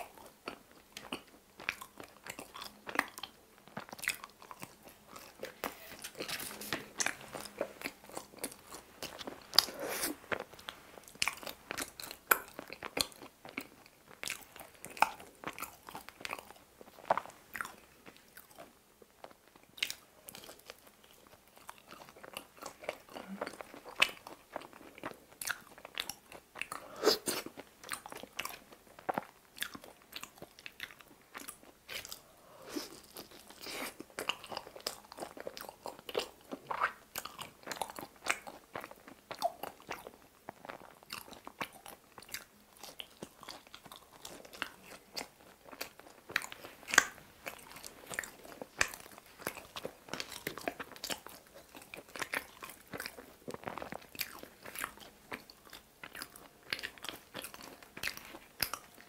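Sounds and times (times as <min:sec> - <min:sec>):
chewing crisp pizza crust: 0:00.0 - 0:59.0.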